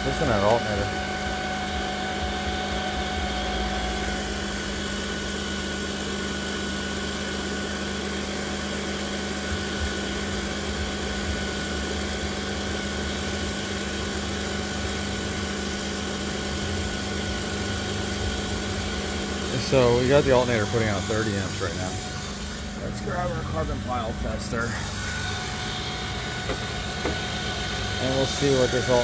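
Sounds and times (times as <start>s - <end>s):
alternator whine: 0.0s - 29.0s.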